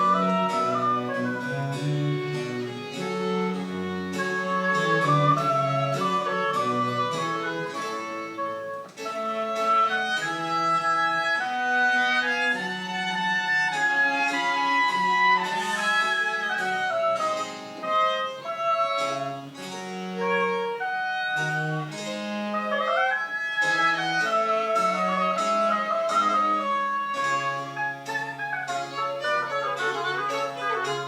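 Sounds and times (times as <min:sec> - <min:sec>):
baroque chamber ensemble: 0:00.0 - 0:31.0.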